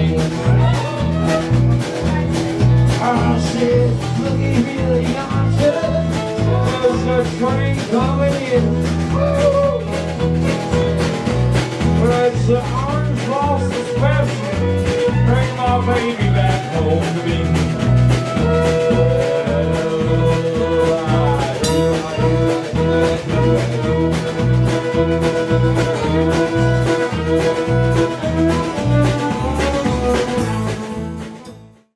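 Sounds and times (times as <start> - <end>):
acoustic guitar: 0.0 - 31.9
banjo: 0.0 - 31.9
drum kit: 0.0 - 31.9
fiddle: 0.0 - 31.9
low bass notes: 0.0 - 31.9.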